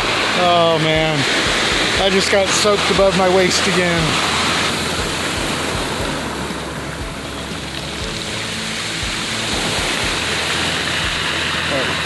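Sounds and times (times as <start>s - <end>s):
surf washing over pebble beach: 0.0s - 12.0s.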